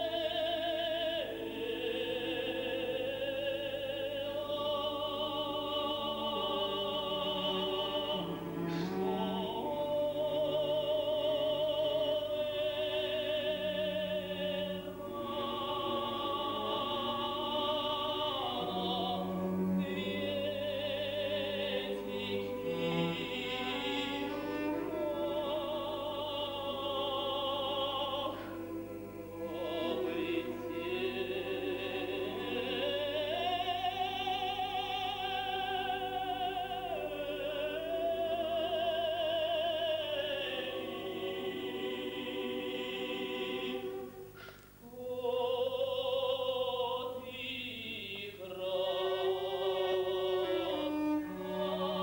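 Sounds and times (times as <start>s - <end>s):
choir singing classical music: 0.0s - 52.0s.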